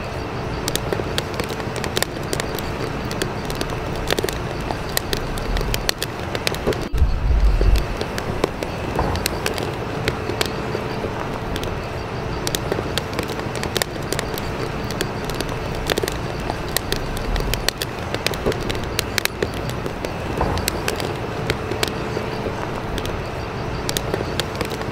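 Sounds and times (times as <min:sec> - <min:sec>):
faint steady hum: 0:00.0 - 0:24.9
sharp clicks and crackles: 0:00.0 - 0:24.9
steady rushing noise: 0:00.0 - 0:24.9.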